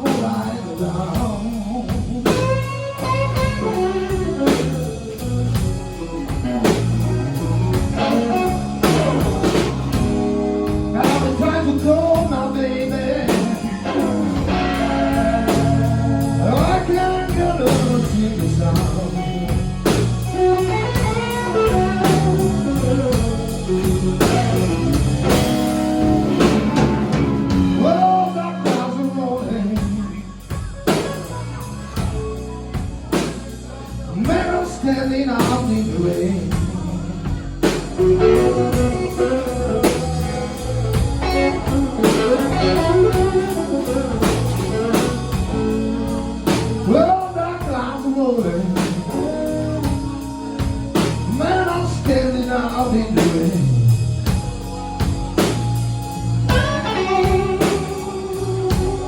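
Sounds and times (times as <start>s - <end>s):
drum kit: 0.0s - 59.0s
slow blues band: 0.0s - 59.0s
electric guitar bent notes: 2.1s - 30.0s, 35.4s - 59.0s.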